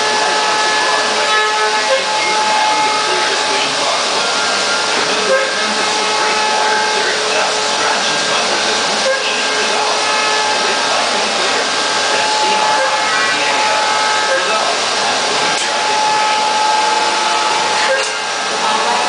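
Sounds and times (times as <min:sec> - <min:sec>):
router milling wood with whine: 0:00.0 - 0:19.0.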